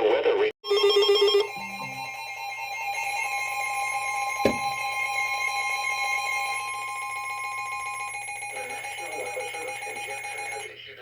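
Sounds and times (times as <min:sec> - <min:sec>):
continuous electronic alarm tone: 0:00.6 - 0:10.8.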